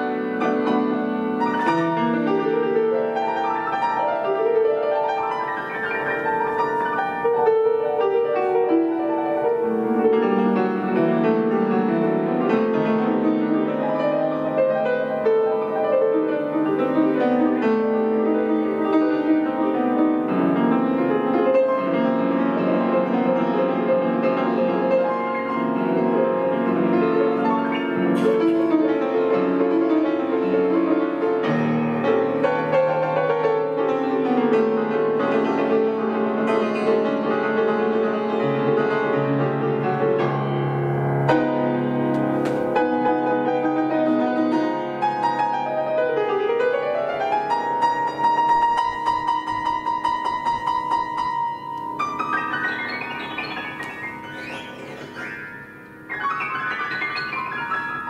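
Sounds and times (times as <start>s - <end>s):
grand piano playing: 0.0s - 58.0s.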